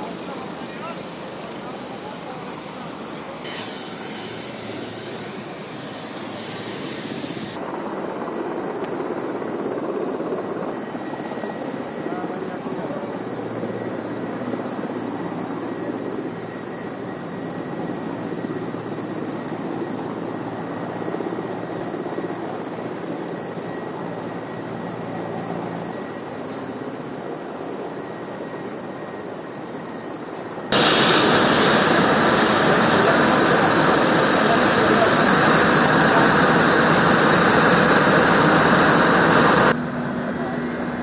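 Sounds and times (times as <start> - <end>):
jet engine noise: 0.0 - 41.0.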